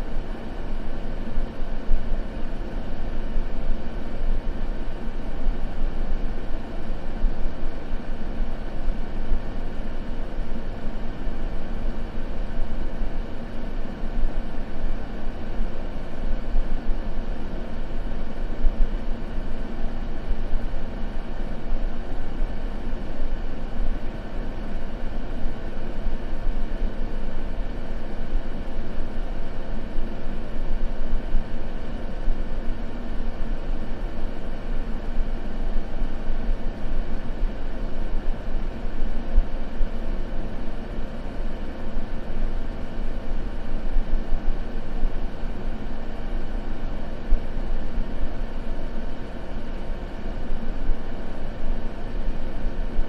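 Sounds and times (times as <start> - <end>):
faint constant hum: 0.0 - 53.0.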